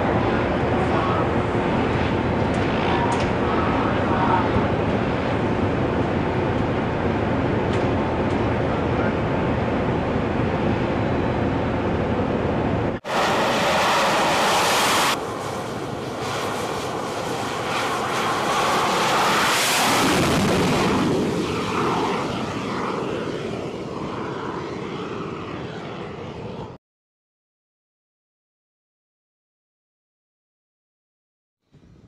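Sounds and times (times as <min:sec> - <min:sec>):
jet aircraft engine: 0:00.0 - 0:26.8.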